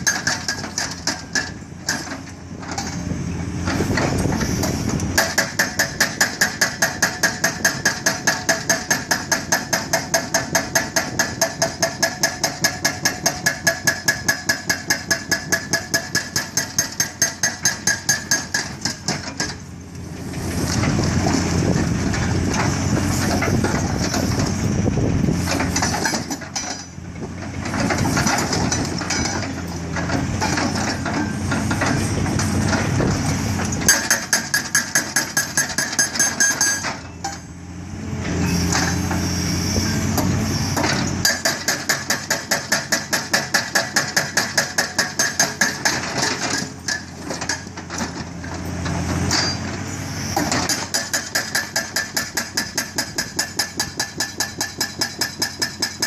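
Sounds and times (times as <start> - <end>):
hydraulic breaker hammering rock: 0.0 - 19.7, 20.4 - 37.5, 38.5 - 49.7, 50.4 - 56.0
excavator engine and hydraulics: 0.0 - 56.0.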